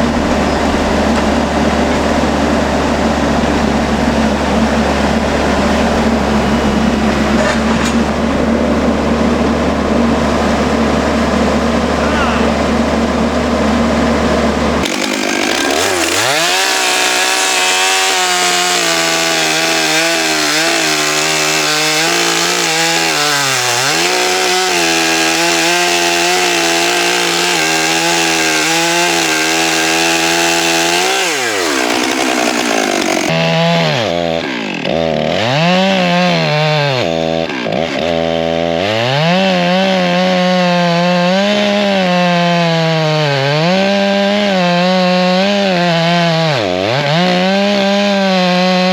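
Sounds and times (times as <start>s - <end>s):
chainsaw cutting through log: 0.0s - 48.9s.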